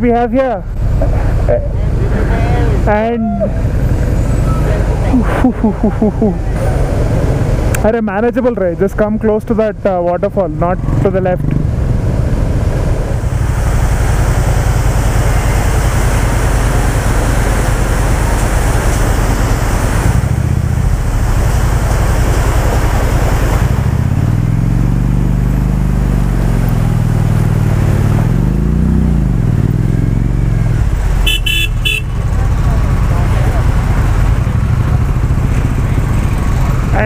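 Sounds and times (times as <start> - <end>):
motorcycle engine revving: 0.0 - 37.0
water rushing and splashing: 0.7 - 8.8, 9.7 - 37.0.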